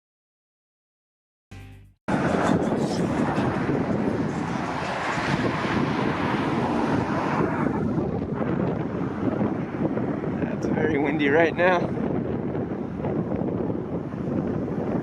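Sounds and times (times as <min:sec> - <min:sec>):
wind blowing over microphone: 0:02.1 - 0:15.0.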